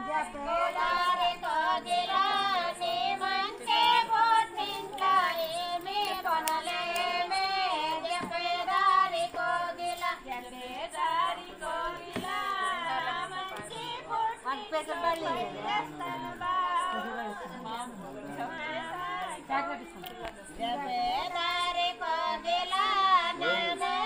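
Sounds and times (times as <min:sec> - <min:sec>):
women singing: 0:00.0 - 0:24.0.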